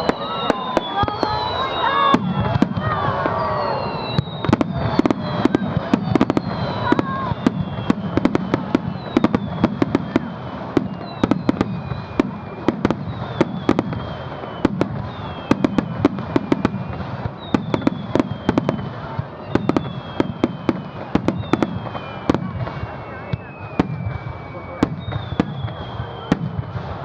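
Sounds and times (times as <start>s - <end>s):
firework bangs and crackles: 0.0s - 27.0s
firework whistles falling in pitch: 0.0s - 27.0s.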